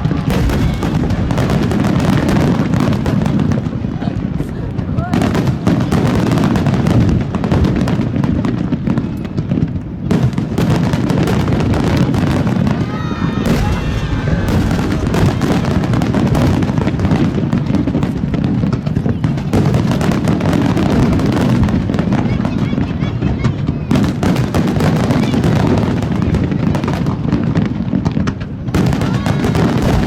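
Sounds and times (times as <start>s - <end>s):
fireworks bursts and crackling: 0.0s - 30.0s.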